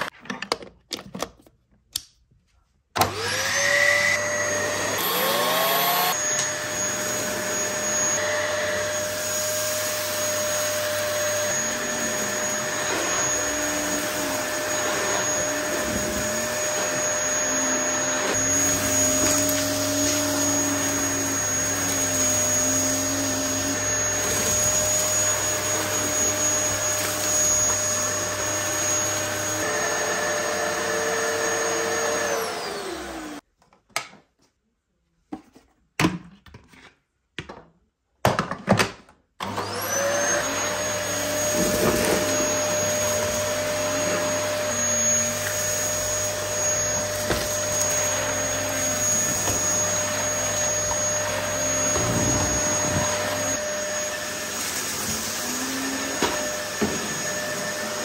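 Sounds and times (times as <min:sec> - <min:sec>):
vacuum cleaner whine: 0:03.0 - 0:33.4, 0:39.4 - 0:58.0
vacuum picking up grit: 0:03.0 - 0:33.4, 0:39.4 - 0:58.0.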